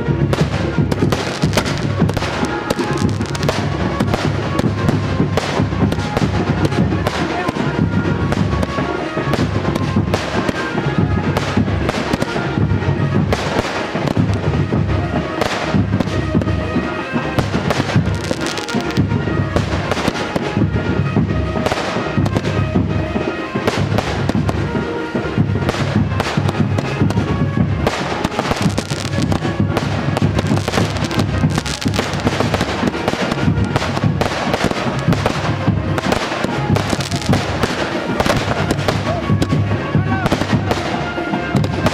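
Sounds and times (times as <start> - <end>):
fireworks cracking and banging: 0.0 - 41.9
loud music: 0.0 - 41.9.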